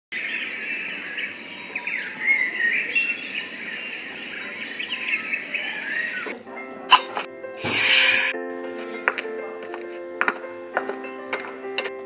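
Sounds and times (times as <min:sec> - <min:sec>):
songbirds chirping: 0:00.1 - 0:11.8
steady outdoor hiss: 0:00.2 - 0:12.0.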